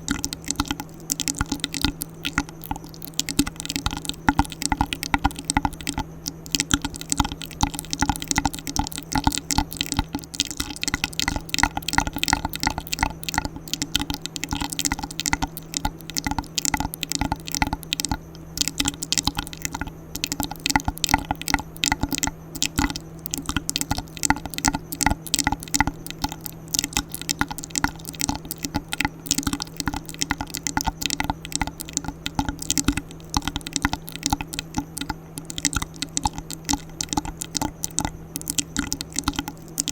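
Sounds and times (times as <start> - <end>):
steady low hum: 0.0 - 39.9
wet mouth clicks and smacks: 0.0 - 39.9.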